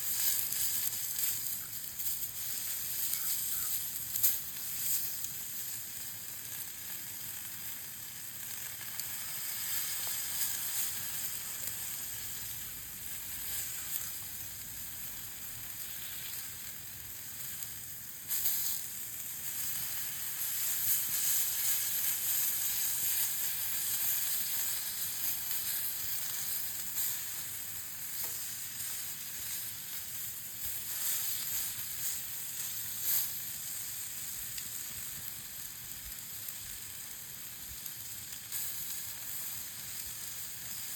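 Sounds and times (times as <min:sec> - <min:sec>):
meat sizzling over campfire: 0:00.0 - 0:40.9.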